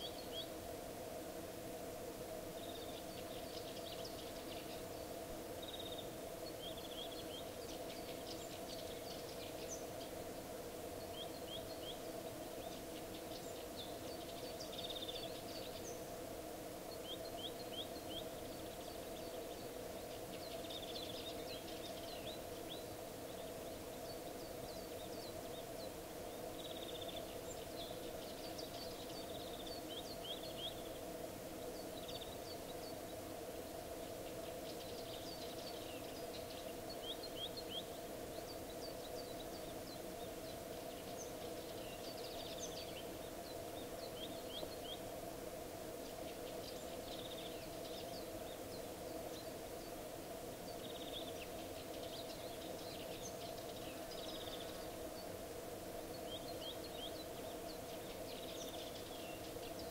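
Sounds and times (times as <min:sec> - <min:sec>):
small birds chirping: 0:00.0 - 0:00.7, 0:02.2 - 0:59.9.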